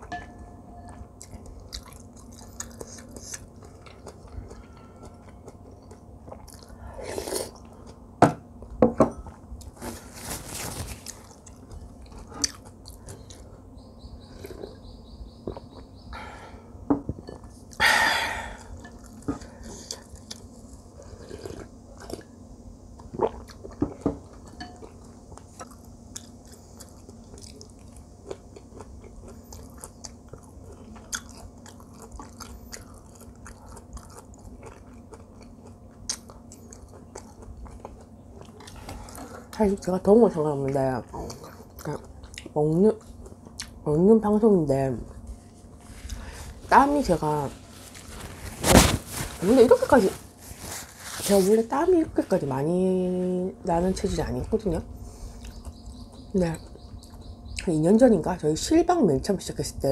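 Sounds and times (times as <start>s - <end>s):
chewing and crunching food: 0.9s - 16.1s, 18.6s - 53.2s, 54.0s - 57.8s.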